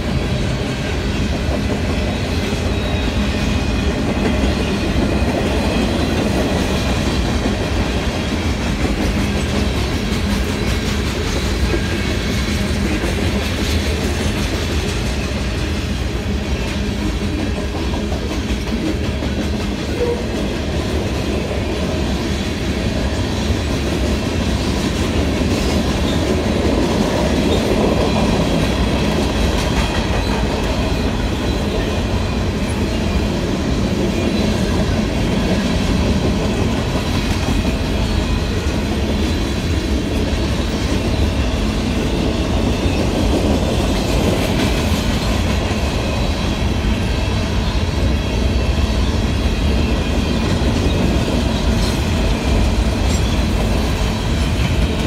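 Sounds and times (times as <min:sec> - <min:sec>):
train wheels rolling over rails: 0:00.0 - 0:55.0.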